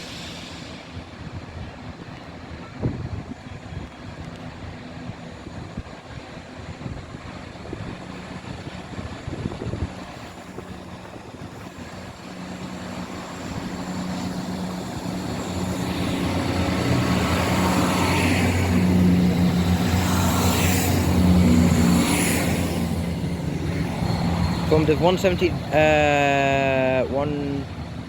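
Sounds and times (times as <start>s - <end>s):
diesel train engine drone: 0.0s - 28.0s.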